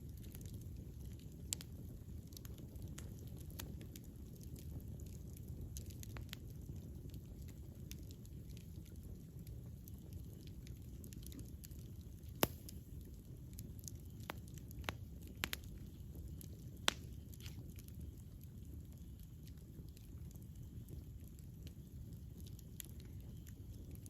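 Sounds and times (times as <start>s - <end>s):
campfire crackling and popping: 0.0s - 24.0s
low rumble of flames: 0.0s - 24.0s.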